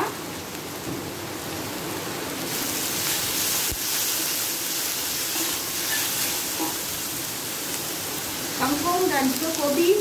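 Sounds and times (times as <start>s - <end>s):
paste sizzling in a wok: 0.1s - 10.0s.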